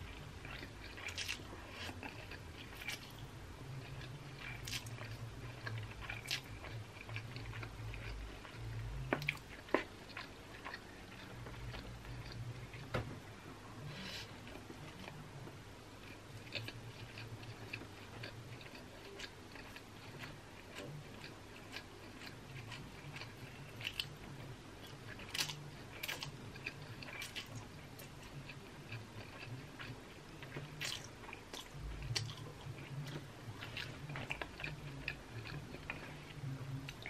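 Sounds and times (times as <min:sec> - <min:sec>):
chewing noodles: 0:00.0 - 0:12.9, 0:16.0 - 0:24.2, 0:24.8 - 0:37.0.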